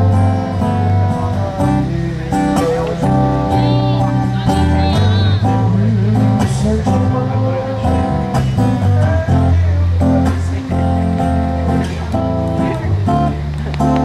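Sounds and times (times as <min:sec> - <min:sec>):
acoustic guitar strumming: 0:00.0 - 0:14.0
low bass line: 0:00.0 - 0:14.0.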